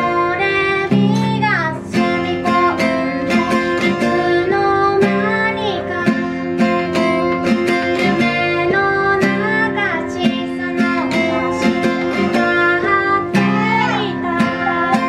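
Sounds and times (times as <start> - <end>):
acoustic guitar strumming: 0.0 - 15.0
woman singing: 0.0 - 15.0.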